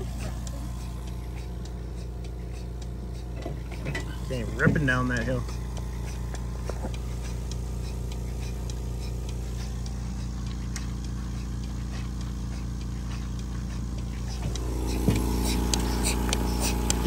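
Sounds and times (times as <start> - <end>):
pulsator ticking: 0.0 - 17.0
vacuum pump humming: 0.0 - 17.0.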